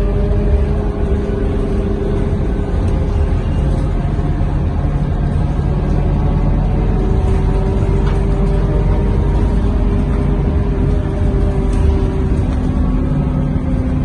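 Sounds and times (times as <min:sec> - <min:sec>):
bus engine rumbling with whine: 0:00.0 - 0:14.0.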